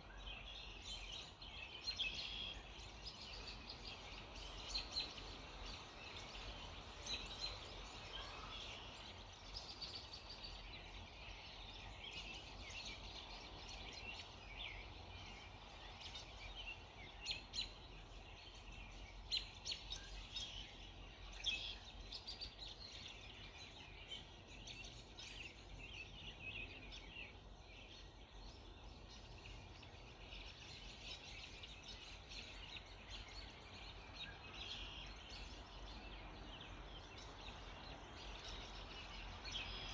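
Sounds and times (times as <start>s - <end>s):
low background noise: 0.0s - 39.9s
songbirds chirping and singing: 0.0s - 39.9s.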